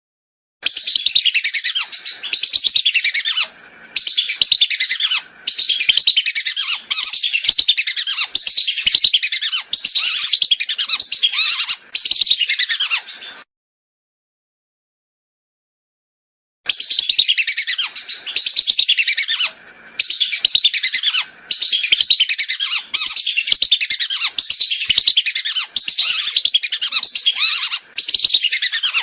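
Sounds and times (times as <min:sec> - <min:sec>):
ducks calling shrill whistles: 0:00.6 - 0:13.4, 0:16.7 - 0:29.0.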